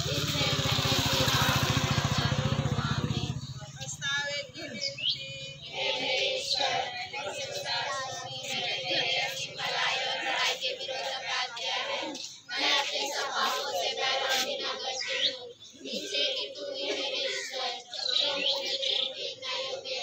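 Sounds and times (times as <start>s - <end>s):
children singing a hymn: 0.0s - 20.0s.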